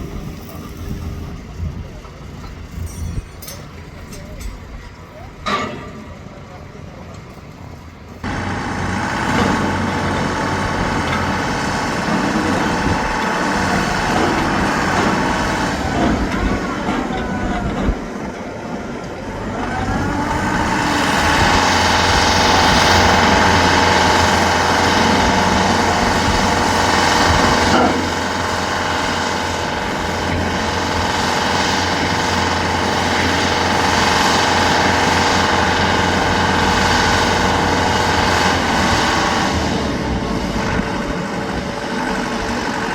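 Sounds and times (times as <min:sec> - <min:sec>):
heavy vehicle engine running: 0:00.0 - 0:42.9
traffic noise: 0:00.0 - 0:42.9.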